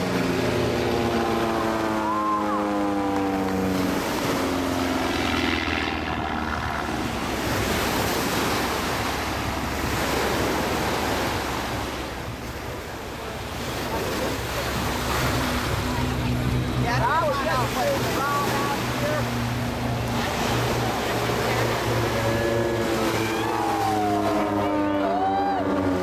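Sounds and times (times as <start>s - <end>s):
plane engine drone: 0.0s - 26.0s
surf washing onto beach: 0.0s - 26.0s.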